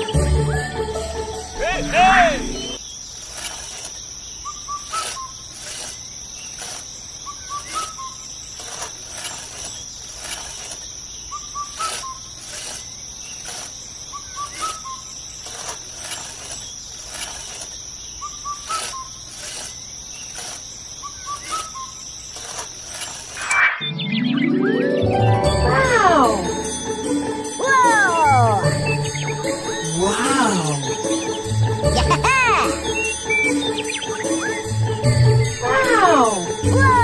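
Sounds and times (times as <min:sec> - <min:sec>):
high insect trill: 0:00.0 - 0:23.6, 0:25.4 - 0:37.0
bird chirps: 0:01.8 - 0:25.4, 0:27.7 - 0:36.7.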